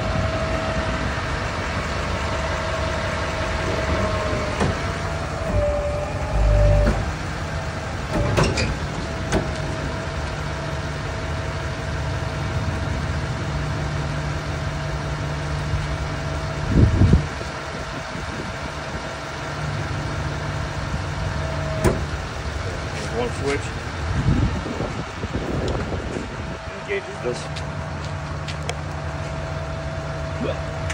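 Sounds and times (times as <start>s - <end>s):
diesel engine idling: 0.0s - 30.9s
hydraulic whine: 0.0s - 30.9s.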